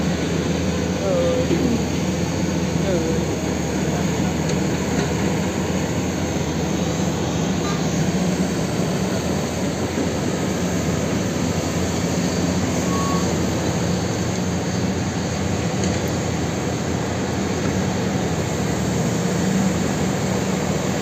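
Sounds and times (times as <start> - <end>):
distant diesel engines humming: 0.0 - 21.0.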